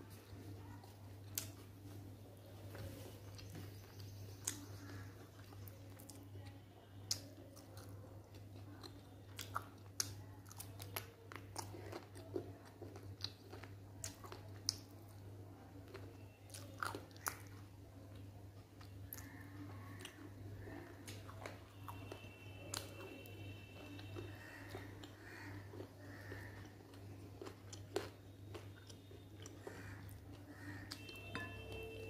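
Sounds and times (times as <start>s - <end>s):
moist chewing: 0.1s - 31.9s.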